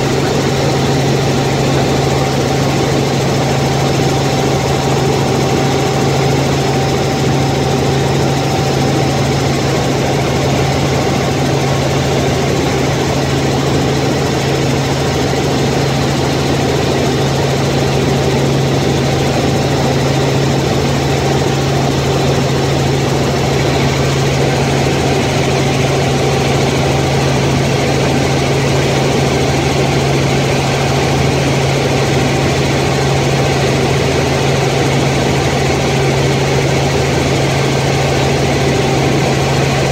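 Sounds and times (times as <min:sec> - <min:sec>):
helicopter engine and rotors humming: 0:00.0 - 0:39.9.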